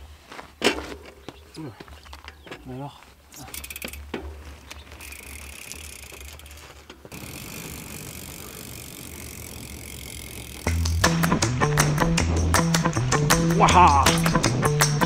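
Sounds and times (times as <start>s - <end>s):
bike tyres rolling on dirt: 0.0s - 15.0s.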